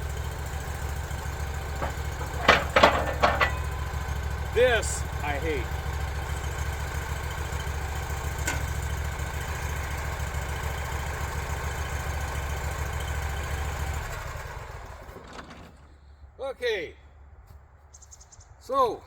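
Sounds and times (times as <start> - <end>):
engine shutting off: 0.0 - 16.2
engine idling: 0.0 - 16.4.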